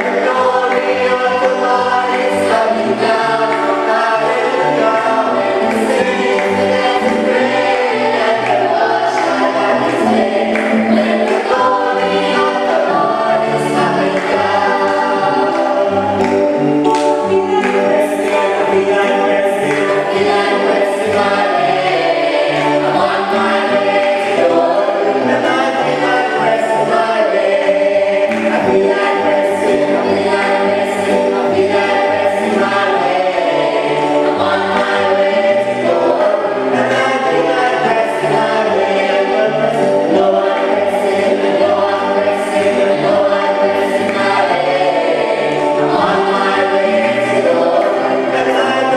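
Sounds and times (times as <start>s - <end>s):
choir singing gospel: 0.0s - 48.9s.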